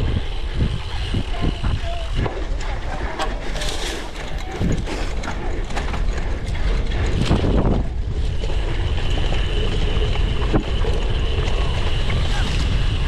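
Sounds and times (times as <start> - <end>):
bike drivetrain clicking and rattling: 0.0 - 13.0
freehub ratcheting: 0.0 - 13.0
wind rumble on microphone: 0.0 - 13.0.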